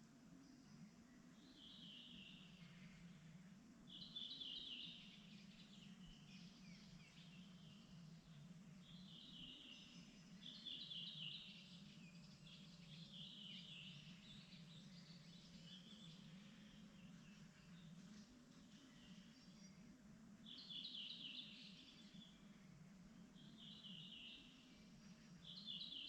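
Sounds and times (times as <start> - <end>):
faint songbirds trilling: 0.1 - 26.0.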